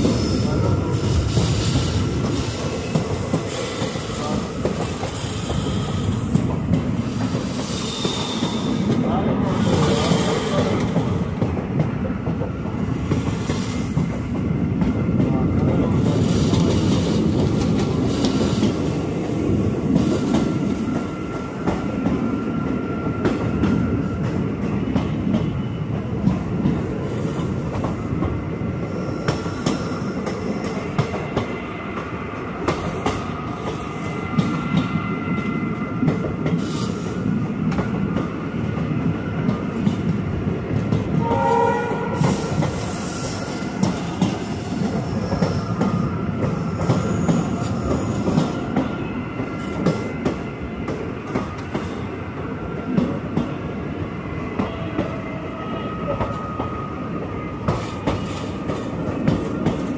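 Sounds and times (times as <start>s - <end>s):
rail joint clicks: 0.0s - 52.0s, 57.6s - 59.9s
train rumbling on rails: 0.0s - 59.9s.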